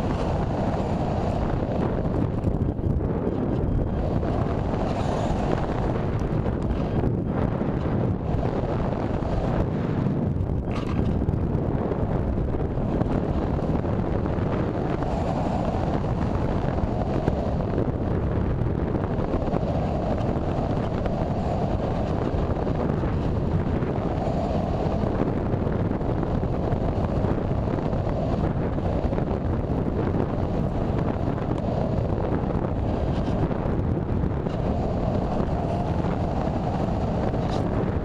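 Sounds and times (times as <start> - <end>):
airflow rushing over microphone: 0.0 - 38.0.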